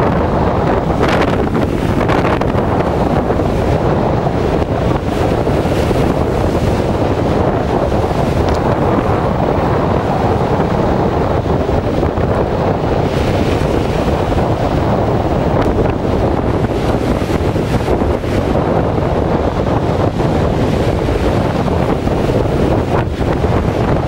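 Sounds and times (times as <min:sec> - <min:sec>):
choppy sea surf: 0:00.0 - 0:24.0
strong wind on microphone: 0:00.0 - 0:24.0.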